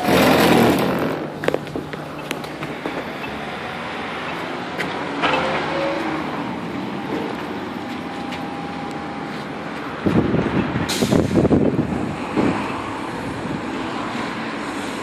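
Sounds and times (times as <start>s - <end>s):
bus engine running: 0.0s - 15.0s
street noise: 0.0s - 15.0s.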